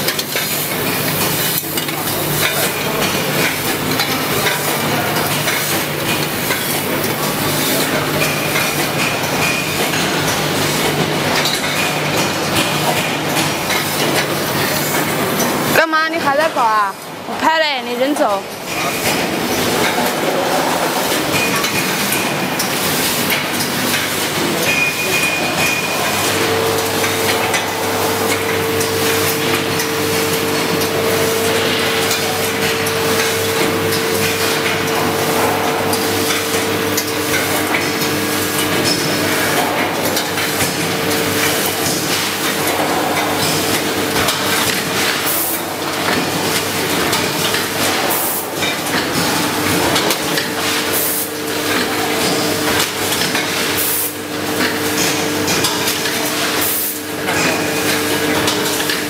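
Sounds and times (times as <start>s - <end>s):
machines clattering and knocking: 0.0s - 59.0s
steady machine hum: 0.0s - 59.0s.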